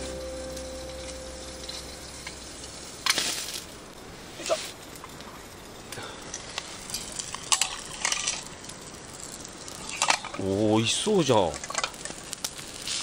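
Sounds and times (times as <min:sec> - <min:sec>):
campfire crackling: 0:00.0 - 0:13.0
rustling hiss: 0:00.0 - 0:13.0.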